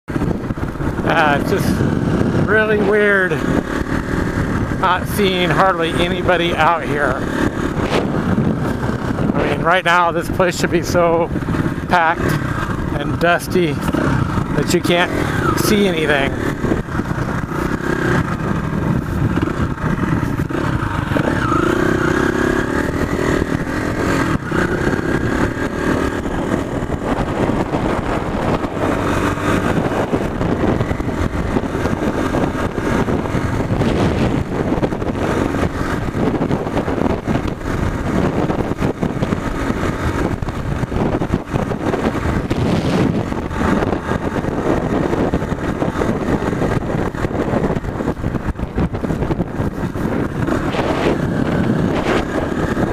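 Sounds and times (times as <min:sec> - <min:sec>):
motorcycle engine running: 0:00.1 - 0:52.9
riding noise rush: 0:00.1 - 0:52.9.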